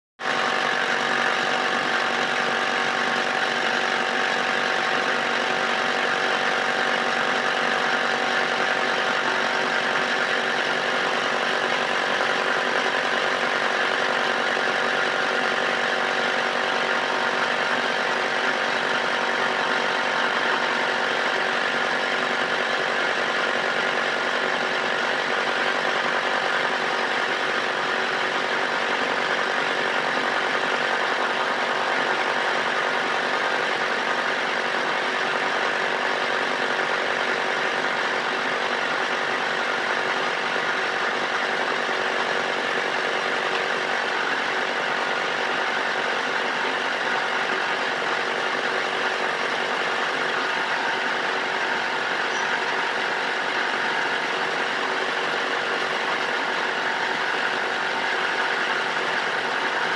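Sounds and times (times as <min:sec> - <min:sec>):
motor humming and whining: 0:00.2 - 0:59.9.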